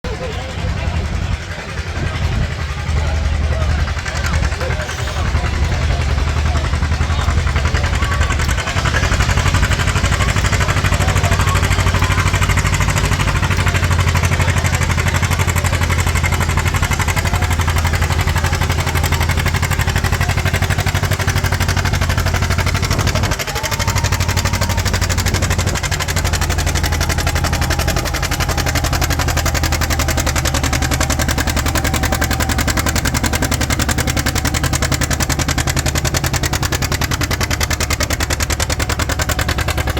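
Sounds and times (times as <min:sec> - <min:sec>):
tractor engine at full throttle: 0:00.0 - 0:39.9.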